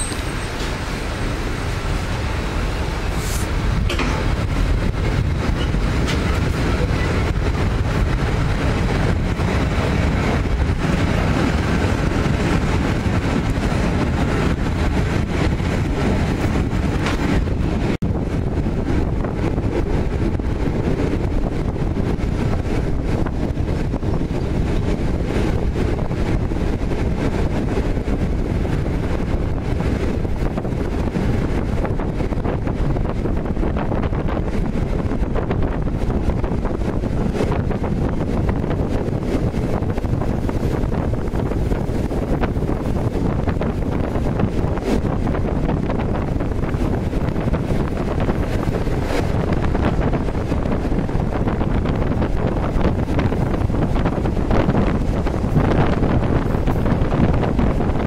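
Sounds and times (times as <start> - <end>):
train running gear rumble: 0.0 - 58.0
wind buffeting microphone: 0.0 - 58.0.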